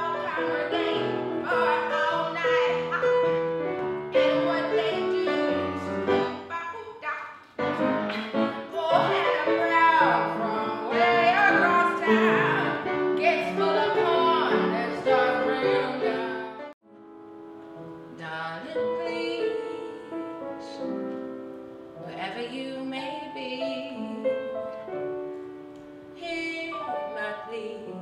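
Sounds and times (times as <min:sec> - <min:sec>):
piano accompaniment: 0:00.0 - 0:06.8, 0:07.4 - 0:28.0
woman singing jazz: 0:00.0 - 0:16.7, 0:18.0 - 0:21.1, 0:22.0 - 0:24.8, 0:26.1 - 0:28.0.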